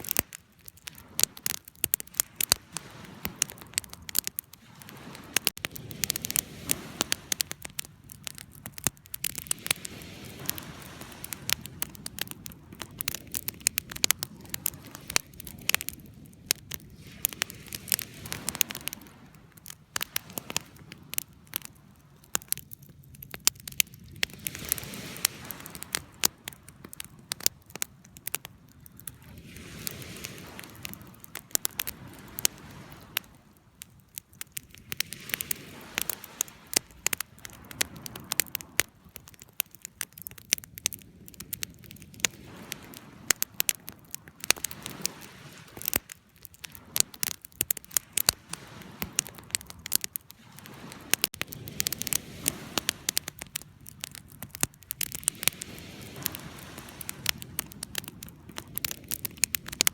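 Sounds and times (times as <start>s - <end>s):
burning wood popping: 0.0s - 59.9s
low rumble of flame: 0.0s - 59.9s.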